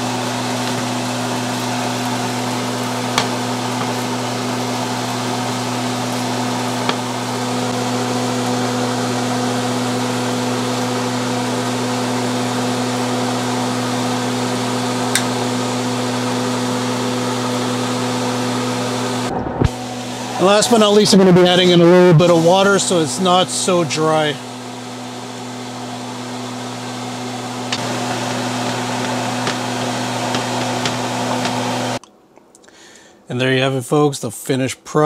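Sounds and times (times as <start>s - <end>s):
exhaust fan humming: 0.0s - 32.1s.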